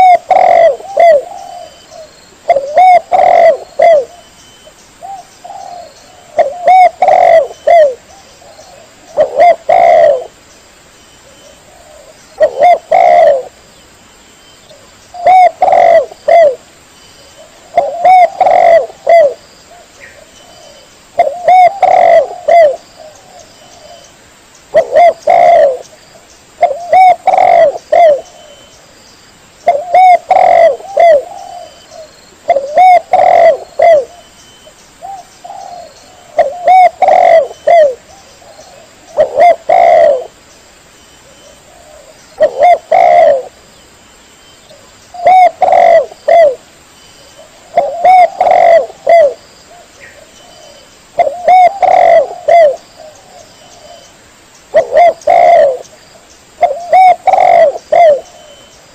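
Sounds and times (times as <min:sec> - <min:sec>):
dove cooing: 0:00.0 - 0:10.4, 0:11.2 - 0:13.6, 0:14.7 - 0:16.6, 0:17.4 - 0:24.1, 0:24.7 - 0:25.9, 0:26.6 - 0:28.7, 0:29.6 - 0:34.3, 0:35.0 - 0:40.4, 0:41.2 - 0:43.6, 0:44.7 - 0:54.1, 0:54.7 - 0:56.0, 0:56.6 - 0:58.7.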